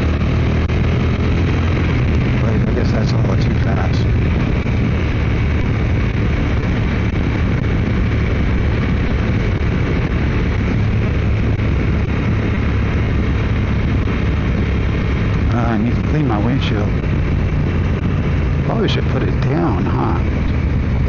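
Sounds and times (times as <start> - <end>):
motorcycle engine hum: 0.0 - 21.0
wind and road noise: 0.0 - 21.0.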